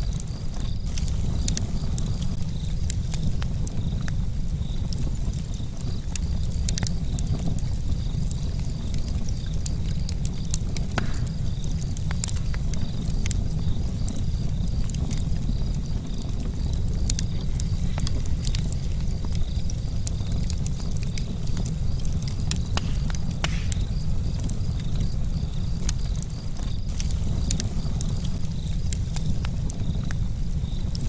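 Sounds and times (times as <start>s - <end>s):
steady low rumble: 0.0s - 25.5s
campfire crackling and popping: 0.0s - 31.0s.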